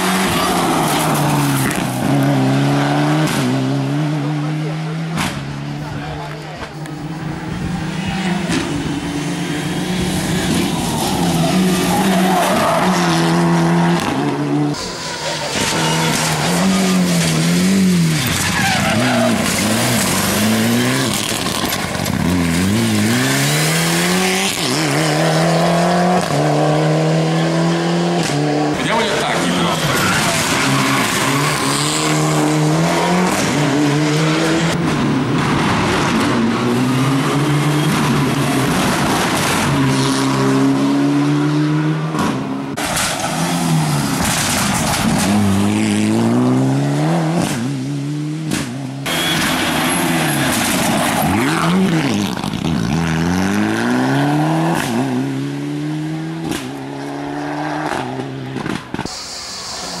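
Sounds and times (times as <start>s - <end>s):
rally car engine accelerating: 0.0s - 59.0s.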